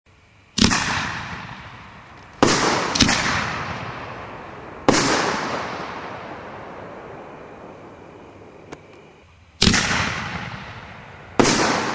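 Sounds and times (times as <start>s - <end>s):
rumble of firework echo: 0.1s - 11.9s.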